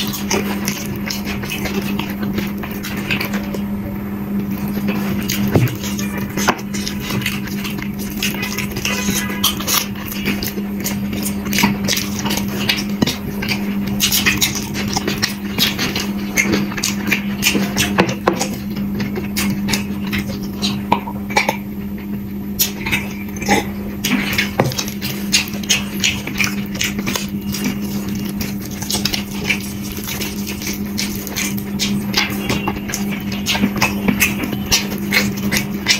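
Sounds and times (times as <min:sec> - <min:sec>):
chewing clicks and smacks: 0:00.0 - 0:03.6, 0:04.4 - 0:35.9
steady low hum: 0:00.0 - 0:35.9.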